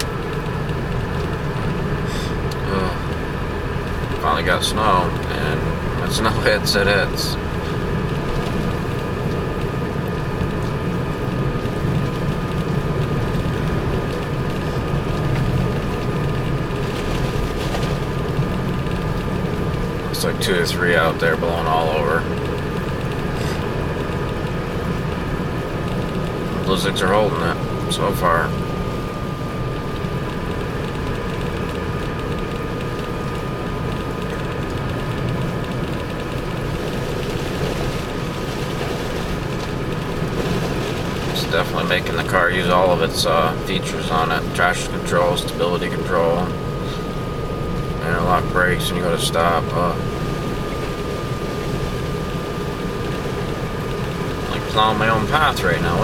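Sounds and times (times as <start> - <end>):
car engine running: 0.0 - 56.0
faint steady hum: 0.0 - 56.0
in-cabin road rumble: 0.0 - 56.0
thin steady whine: 0.0 - 56.0.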